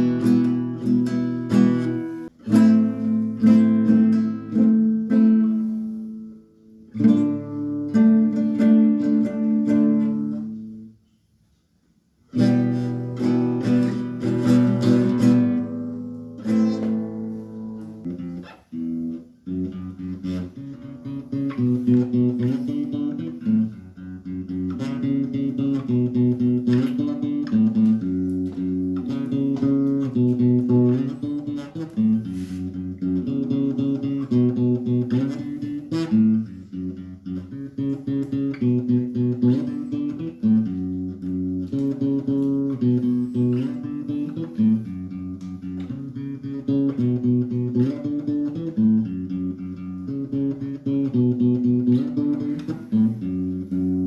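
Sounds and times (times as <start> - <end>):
acoustic guitar chords: 0.0 - 11.0, 12.1 - 54.0.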